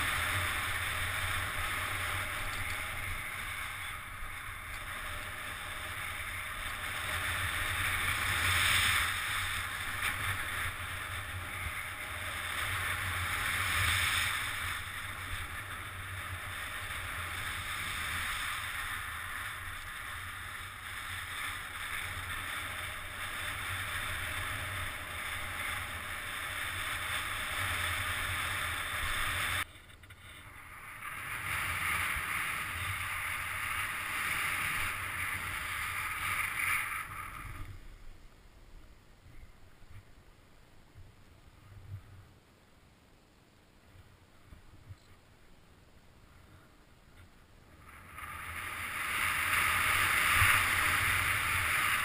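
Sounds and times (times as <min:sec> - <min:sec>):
skis rushing over snow: 0:00.0 - 0:37.9, 0:47.9 - 0:52.0.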